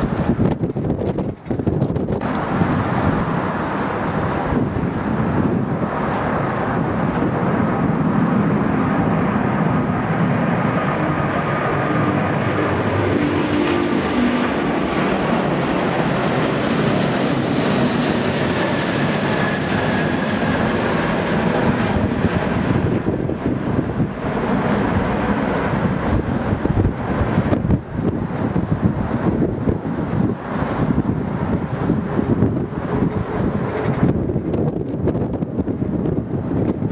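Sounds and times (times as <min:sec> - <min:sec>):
jet engines passing: 0:00.0 - 0:36.9
wind gusts on microphone: 0:00.0 - 0:36.9.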